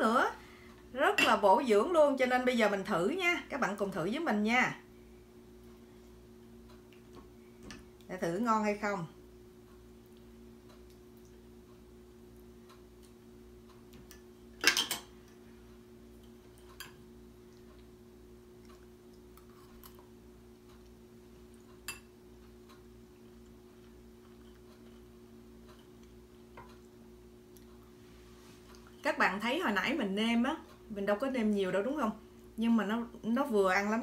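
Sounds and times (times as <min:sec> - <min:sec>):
faint hum: 0:00.0 - 0:34.0.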